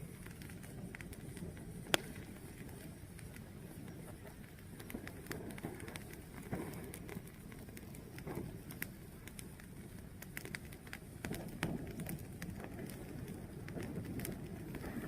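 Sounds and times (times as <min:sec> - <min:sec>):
fire crackles and pops: 0:00.0 - 0:15.0
fire rushing: 0:00.0 - 0:15.0.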